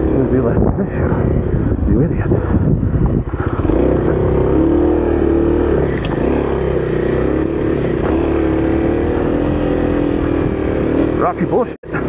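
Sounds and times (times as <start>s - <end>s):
wind rumbling on microphone: 0.0s - 11.0s
motorcycle engine running: 0.0s - 12.0s.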